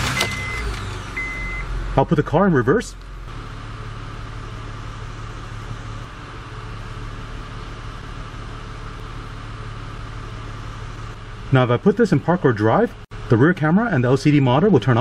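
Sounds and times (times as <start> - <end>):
car engine idling inside cabin: 0.1 - 15.0.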